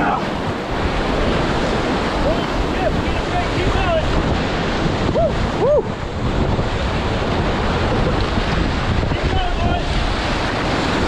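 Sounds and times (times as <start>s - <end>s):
whitewater rapids rushing: 0.0s - 11.0s
wind buffeting microphone: 0.0s - 11.0s.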